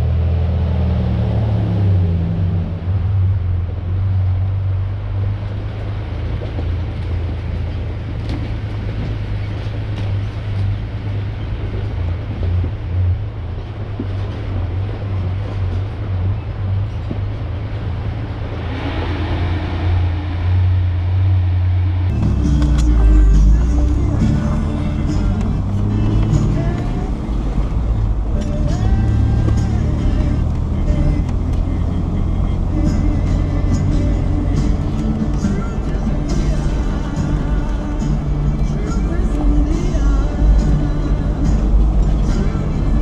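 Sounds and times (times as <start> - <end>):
pickup truck engine rumble: 0.0 - 43.0
road noise hiss: 0.0 - 43.0.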